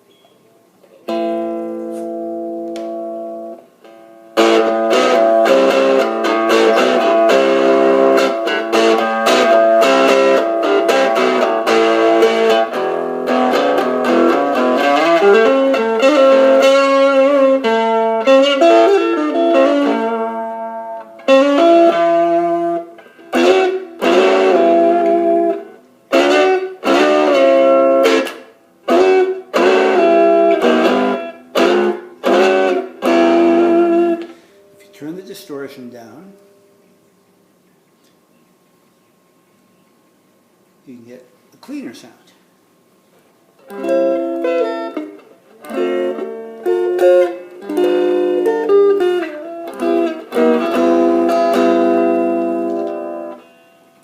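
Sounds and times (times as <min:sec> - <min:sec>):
distorted electric guitar: 0:00.9 - 0:36.7, 0:43.6 - 0:54.0.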